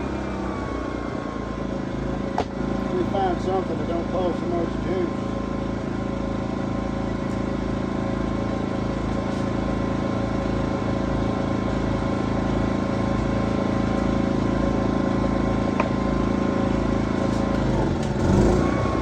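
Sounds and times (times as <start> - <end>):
small generator engine running: 0.0 - 19.0.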